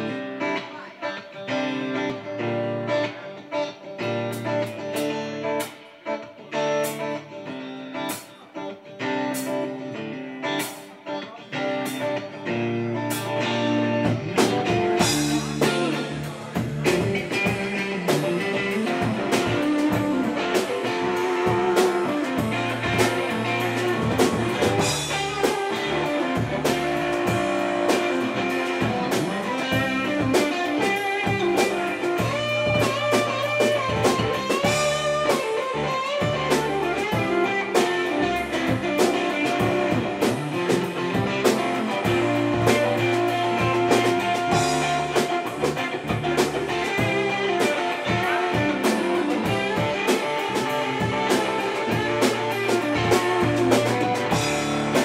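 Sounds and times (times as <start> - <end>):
live band playing instrumental: 0.0 - 55.0.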